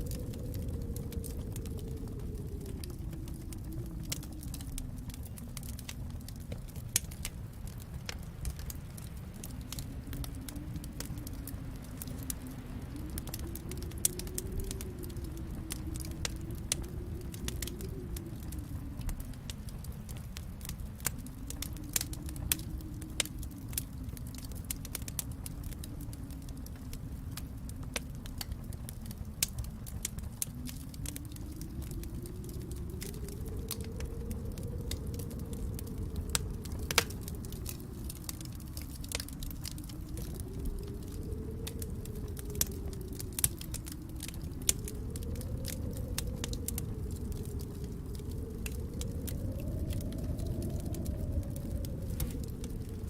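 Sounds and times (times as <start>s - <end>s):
low fire rumble: 0.0s - 53.0s
wood fire crackling and popping: 0.0s - 53.0s.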